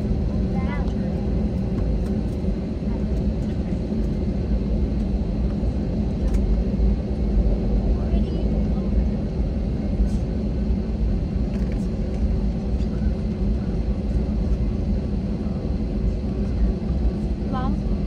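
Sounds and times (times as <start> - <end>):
faint high engine whine: 0.0 - 18.0
jet engine rumble in cabin: 0.0 - 18.0.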